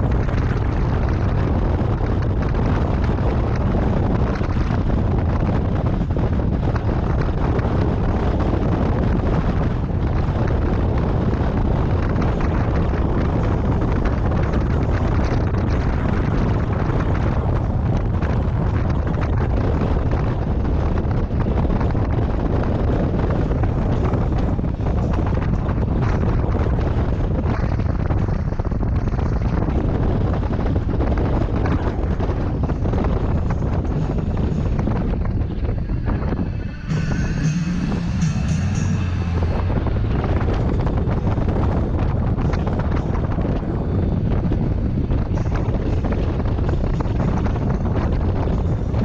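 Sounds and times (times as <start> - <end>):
motorcycle engine rumble: 0.0 - 49.0
wind buffeting microphone: 0.0 - 49.0.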